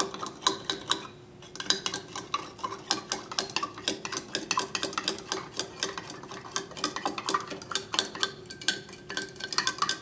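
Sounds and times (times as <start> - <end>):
stirring rod clinking in glass: 0.0 - 10.0.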